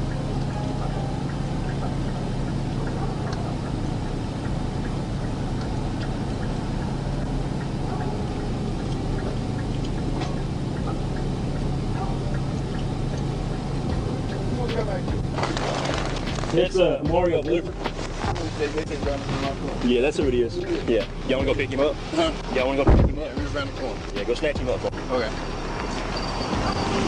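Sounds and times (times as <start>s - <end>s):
vehicle engine hum: 0.0s - 27.0s.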